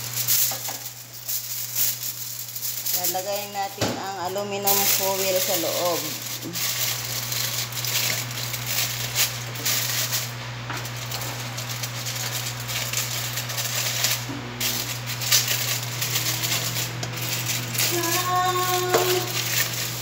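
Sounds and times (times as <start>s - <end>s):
aluminum foil crinkling: 0.0s - 20.0s
steady low hum: 0.0s - 20.0s.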